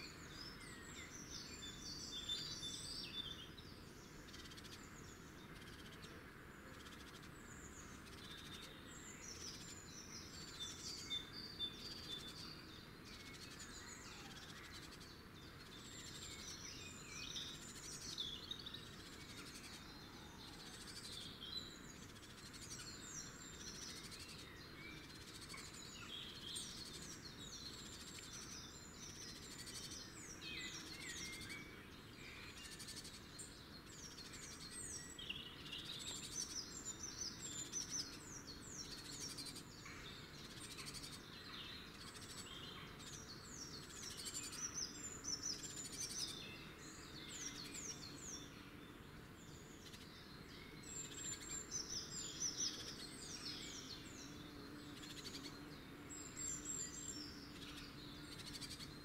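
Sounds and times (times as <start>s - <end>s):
faint steady hiss: 0.0s - 59.0s
birds chirping: 0.1s - 59.0s.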